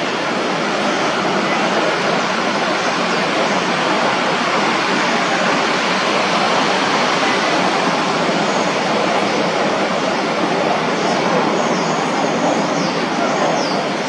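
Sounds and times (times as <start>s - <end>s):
jet airliner roar: 0.0s - 14.0s.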